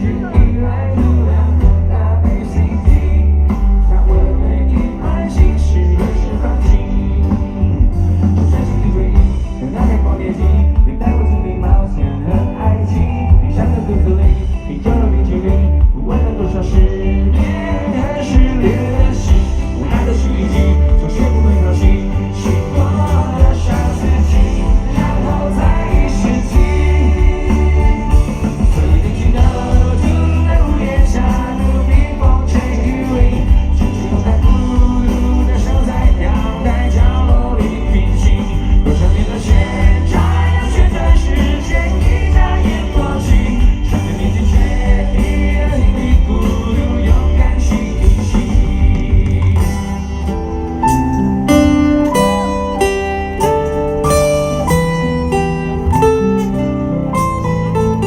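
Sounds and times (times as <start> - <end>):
person singing: 0.0 - 52.8
heavy bass: 0.0 - 58.0
live rock band: 0.0 - 58.0.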